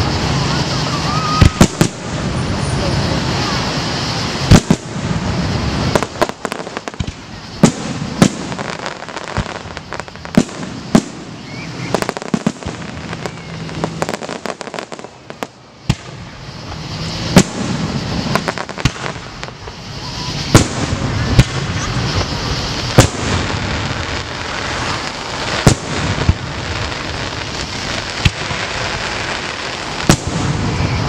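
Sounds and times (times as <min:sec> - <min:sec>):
firework booms: 0:00.0 - 0:31.0
crackling firework pops: 0:00.9 - 0:31.0.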